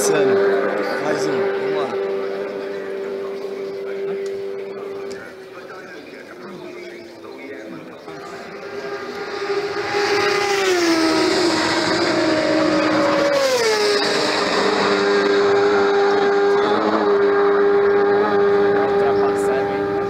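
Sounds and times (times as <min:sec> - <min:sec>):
racing motorcycles passing at speed: 0:00.0 - 0:20.0.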